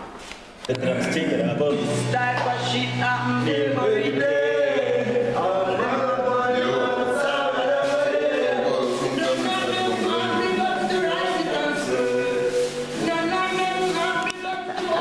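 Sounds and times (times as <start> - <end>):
several voices singing together: 0.8 - 15.0.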